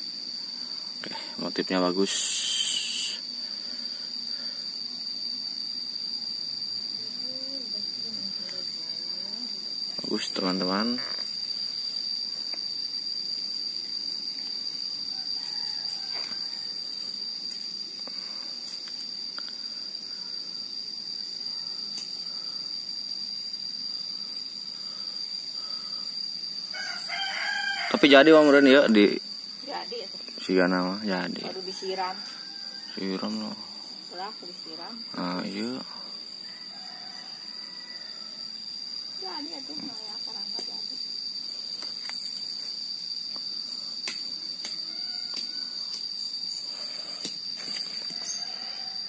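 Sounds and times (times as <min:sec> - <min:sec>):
insect trilling: 0:00.0 - 0:49.0
low outdoor hiss: 0:00.0 - 0:49.0.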